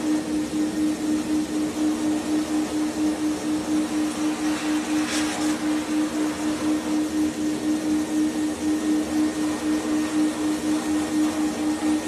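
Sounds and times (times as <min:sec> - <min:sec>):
pulsing machine hum: 0:00.0 - 0:12.0.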